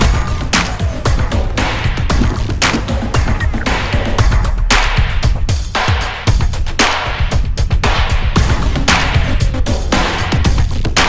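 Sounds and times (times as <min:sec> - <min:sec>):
drums and guitar music: 0:00.0 - 0:11.0.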